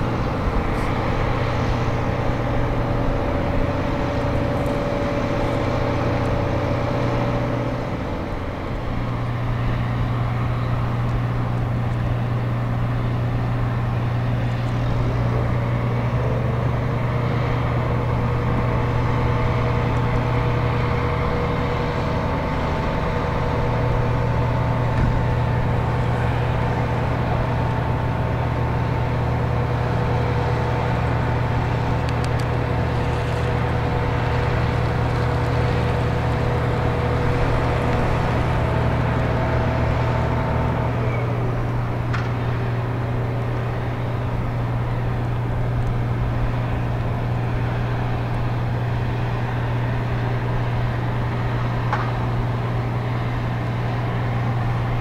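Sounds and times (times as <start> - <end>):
crane whine: 0.0 - 55.0
low machinery drone: 0.0 - 55.0.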